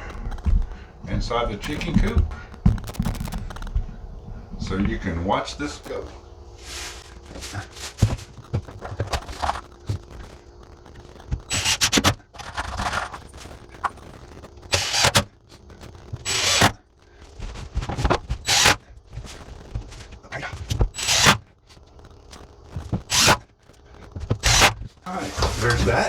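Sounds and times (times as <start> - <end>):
rapid clattering bursts: 0.0 - 26.0.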